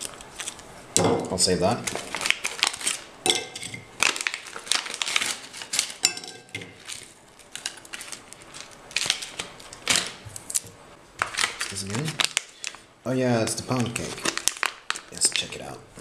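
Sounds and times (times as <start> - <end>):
foil packets crinkling: 0.0 - 0.7, 1.3 - 3.1, 3.9 - 6.1, 6.7 - 16.0.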